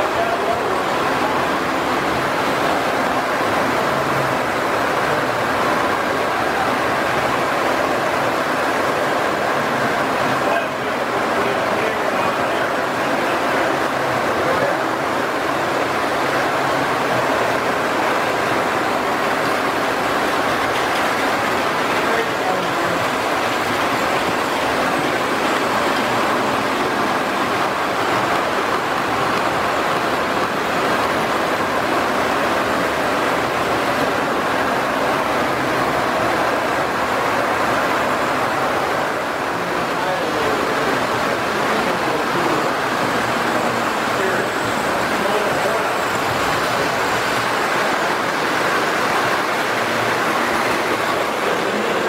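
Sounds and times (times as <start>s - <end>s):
people chatting: 0.0s - 19.7s, 20.6s - 31.4s, 38.3s - 52.0s.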